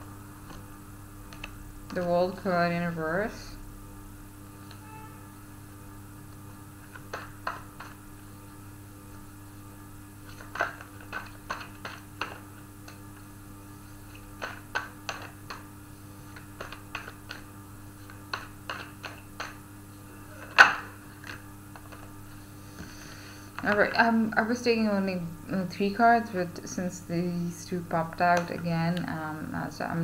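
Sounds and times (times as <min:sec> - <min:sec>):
mains hum: 0:00.0 - 0:30.0.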